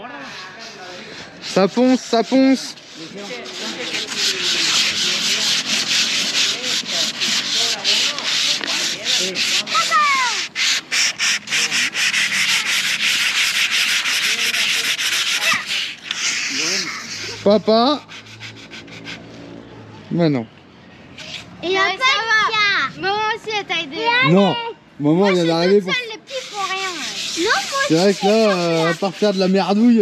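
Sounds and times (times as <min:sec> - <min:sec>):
sandpaper rasping: 0:00.0 - 0:19.5, 0:21.2 - 0:21.5, 0:25.2 - 0:30.0.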